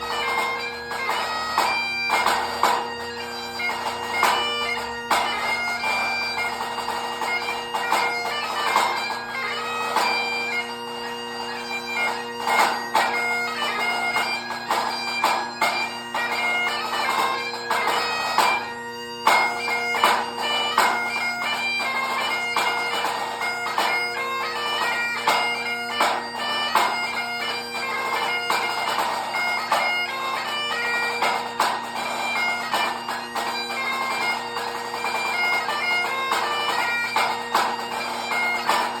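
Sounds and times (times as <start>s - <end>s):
bagpipe playing a tune: 0.0s - 39.0s.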